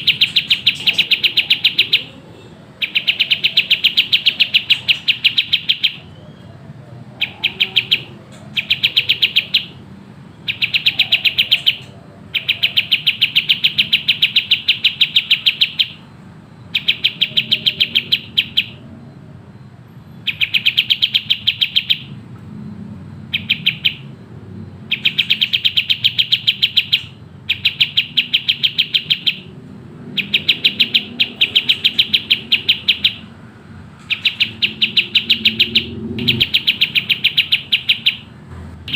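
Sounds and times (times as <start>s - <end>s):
songbird singing rapid trills: 0.0s - 38.3s.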